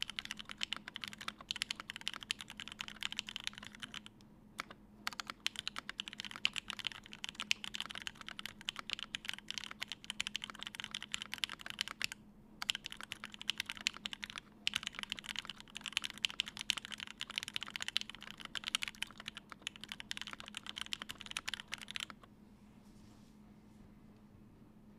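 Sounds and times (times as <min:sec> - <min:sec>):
mechanical keyboard typing: 0:00.0 - 0:22.3.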